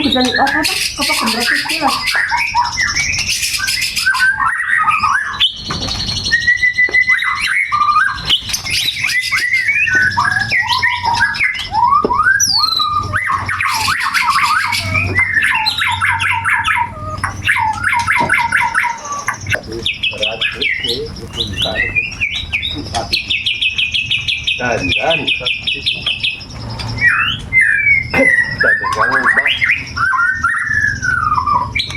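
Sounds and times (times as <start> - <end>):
songbird singing whistles and trills: 0.0 - 31.9.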